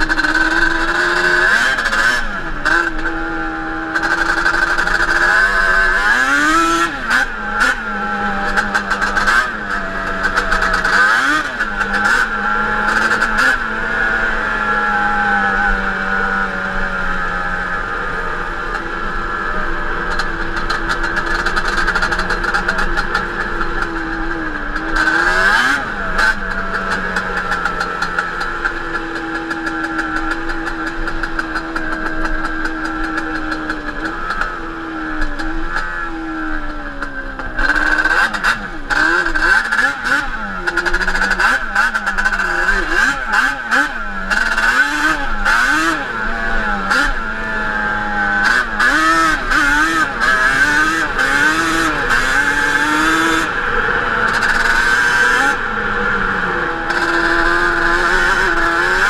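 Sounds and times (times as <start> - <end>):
two-stroke engine revving: 0.0 - 59.0.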